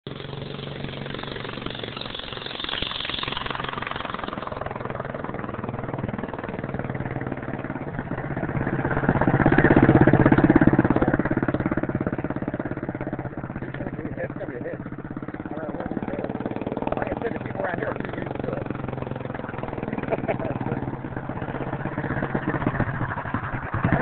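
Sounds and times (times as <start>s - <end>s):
small engine running: 0.1s - 24.0s.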